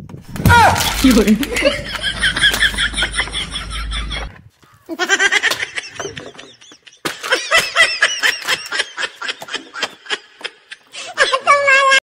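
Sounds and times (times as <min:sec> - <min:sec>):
person laughing: 0:01.0 - 0:12.0.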